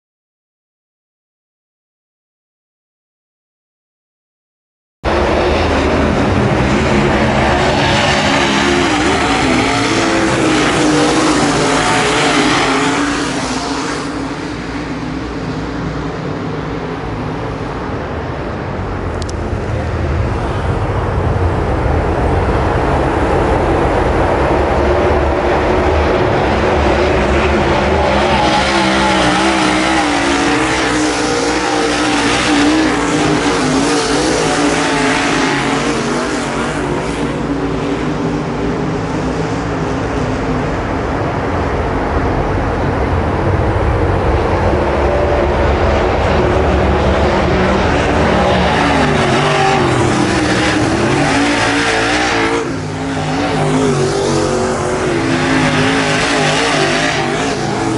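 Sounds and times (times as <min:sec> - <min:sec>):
race car engines at full throttle: 0:05.0 - 0:57.9.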